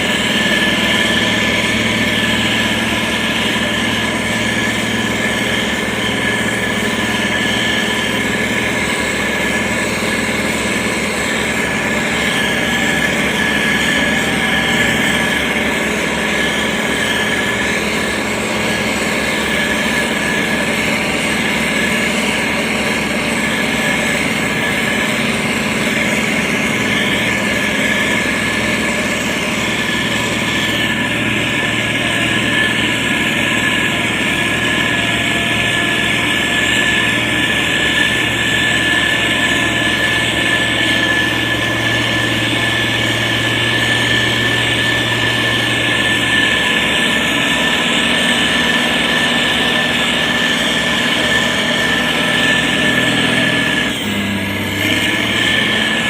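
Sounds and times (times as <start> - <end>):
heavy machinery diesel engine: 0.0 - 56.0
high whine: 0.0 - 56.0.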